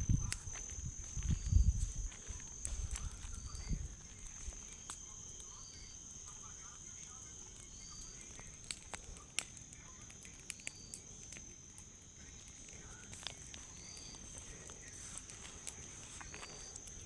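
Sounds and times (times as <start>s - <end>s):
high-pitched insect drone: 0.0s - 8.6s, 9.6s - 17.0s
bonfire crackling and popping: 0.0s - 17.0s.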